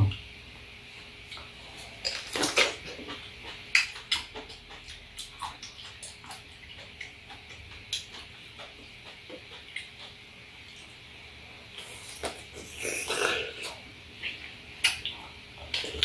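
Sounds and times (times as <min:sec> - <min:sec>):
people chewing: 0:00.9 - 0:16.0.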